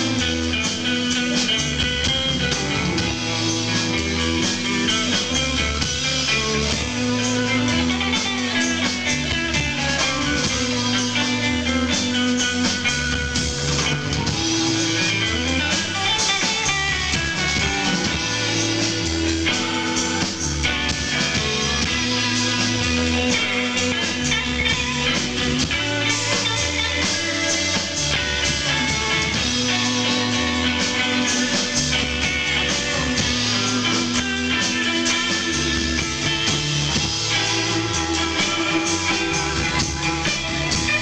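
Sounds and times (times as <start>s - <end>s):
bass guitar: 0.0s - 41.0s
drum kit: 0.0s - 41.0s
electric guitars: 0.0s - 41.0s.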